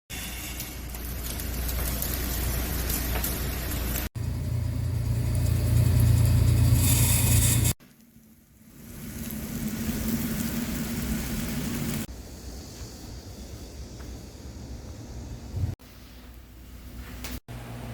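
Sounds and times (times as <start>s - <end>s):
rotisserie roaster rumble and hiss: 0.1s - 7.8s, 8.4s - 17.9s.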